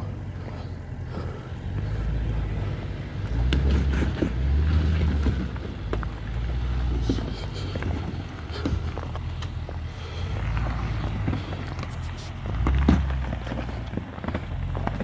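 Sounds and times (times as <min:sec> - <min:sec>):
engine running at low revs: 0:00.0 - 0:15.0
stones crunching under tyres: 0:00.4 - 0:15.0.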